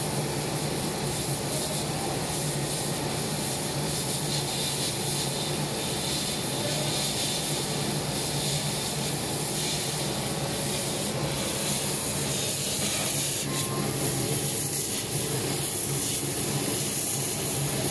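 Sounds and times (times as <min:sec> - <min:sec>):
laser cutting machine hissing: 0:00.0 - 0:17.9.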